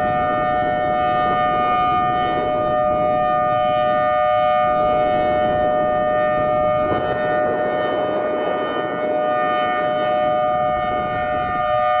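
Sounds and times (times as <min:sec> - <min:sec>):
two-note warning siren: 0:00.0 - 0:12.0.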